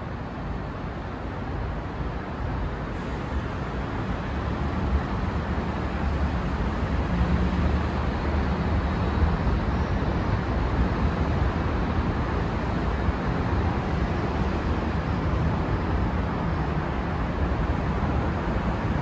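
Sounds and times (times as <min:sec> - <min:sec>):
traffic: 0:00.0 - 0:19.0.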